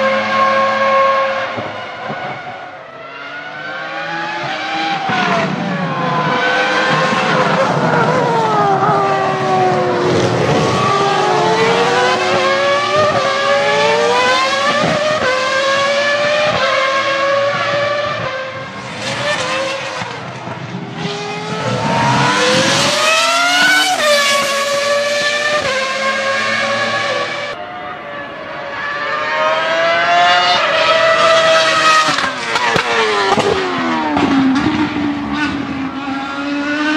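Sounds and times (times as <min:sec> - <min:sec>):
racing car engine revving: 0:00.0 - 0:36.9.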